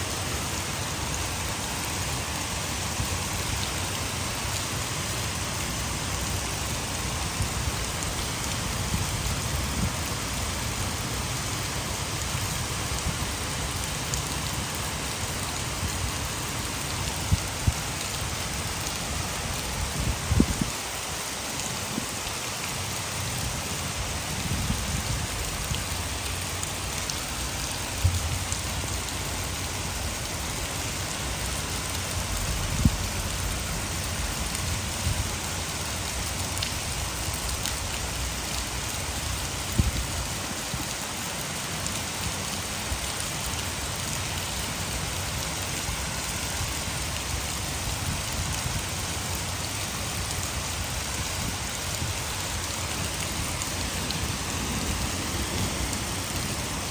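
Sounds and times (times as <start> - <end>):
heavy rain: 0.0 - 56.9
water falling from dam: 0.0 - 56.9.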